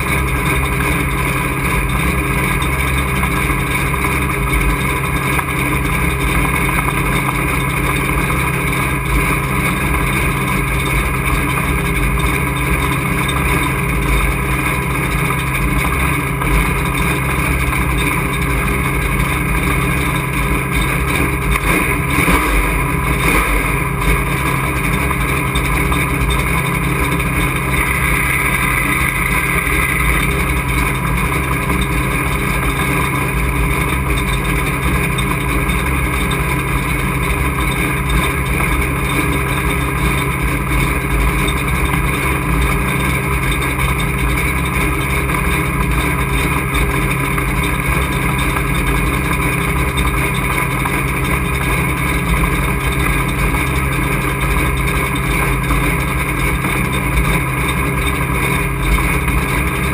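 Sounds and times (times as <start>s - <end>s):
truck engine running steadily: 0.0s - 59.9s.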